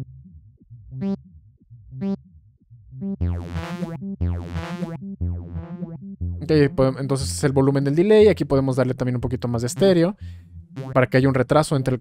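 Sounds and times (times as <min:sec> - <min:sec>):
phased synthesizer notes: 0:00.0 - 0:12.0.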